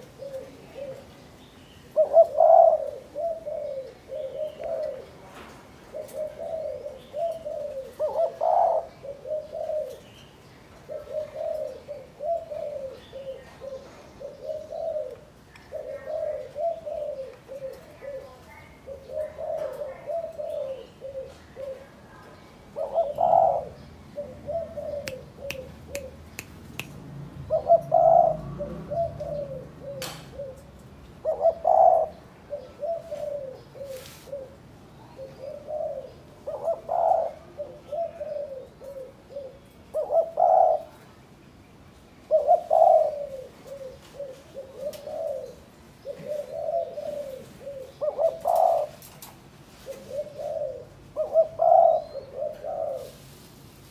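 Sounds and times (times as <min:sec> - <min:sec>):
dove cooing: 0:00.0 - 0:26.3, 0:27.4 - 0:41.2, 0:42.2 - 0:53.5.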